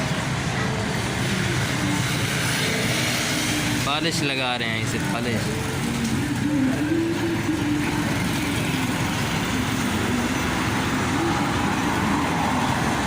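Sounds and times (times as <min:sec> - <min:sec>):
traffic and engine noise: 0:00.0 - 0:13.0.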